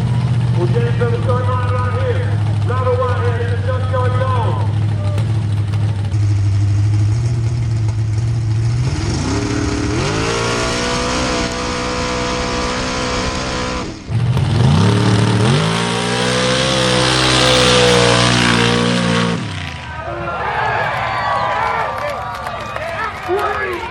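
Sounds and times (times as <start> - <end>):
truck engine revving: 0.0 - 20.3.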